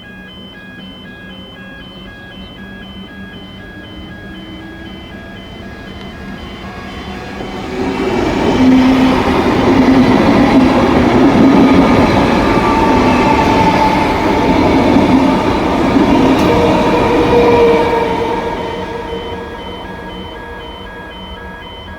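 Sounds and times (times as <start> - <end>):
low humming tone: 0.0 - 21.9
train wheels rushing on rails: 3.0 - 21.9.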